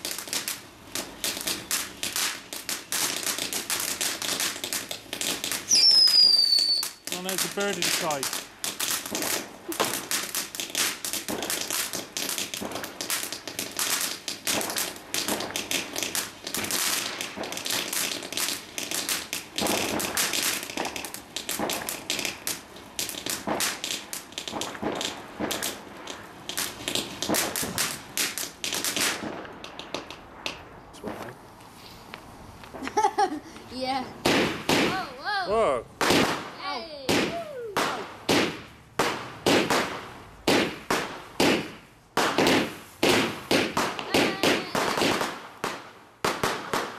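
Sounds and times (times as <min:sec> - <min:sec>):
firework fountain crackling: 0:00.0 - 0:46.9
firework fountain hissing: 0:00.0 - 0:46.9.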